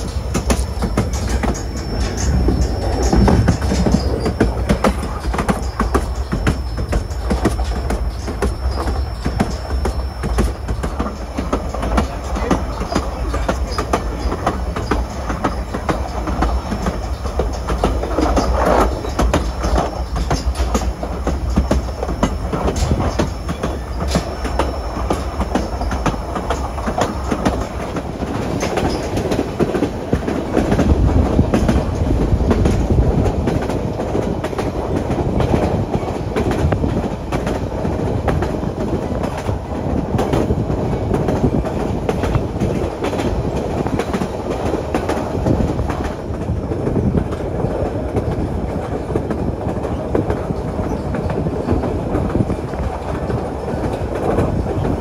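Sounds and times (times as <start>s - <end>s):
train rumbling: 0.0s - 55.0s
wheels clicking over rail joints: 0.0s - 55.0s.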